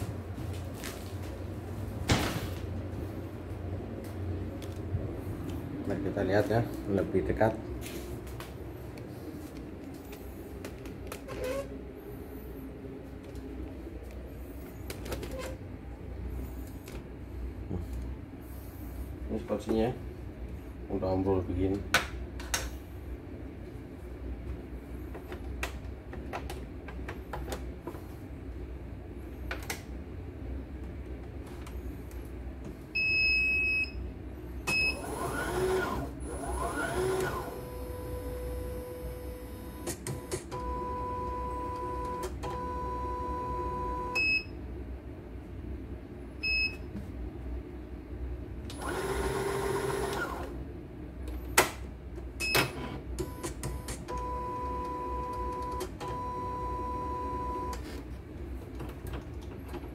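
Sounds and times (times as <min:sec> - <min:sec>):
high hum from drive: 0:00.0 - 0:59.9.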